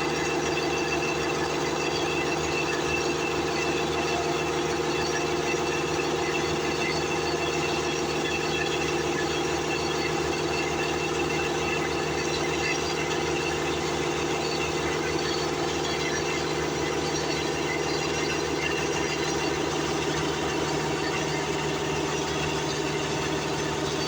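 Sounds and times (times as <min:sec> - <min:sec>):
motor humming steadily: 0:00.0 - 0:24.0.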